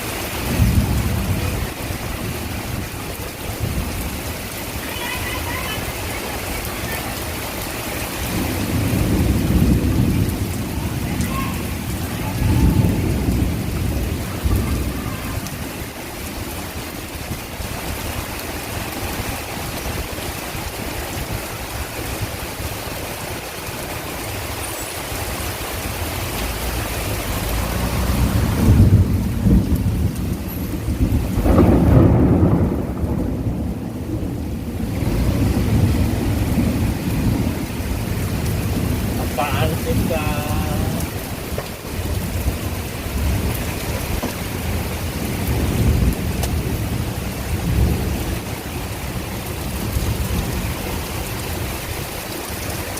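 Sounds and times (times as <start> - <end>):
thunder rumbling: 0.0 - 24.5, 25.1 - 52.7
heavy rain: 0.0 - 52.9.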